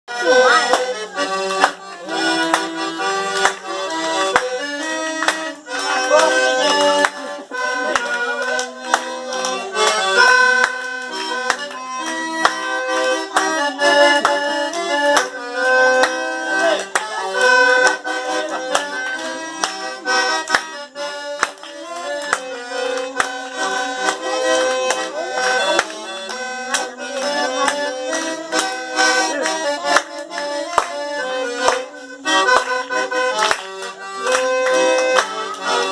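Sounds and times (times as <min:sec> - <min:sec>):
accordion playing a tune: 0:00.1 - 0:35.9.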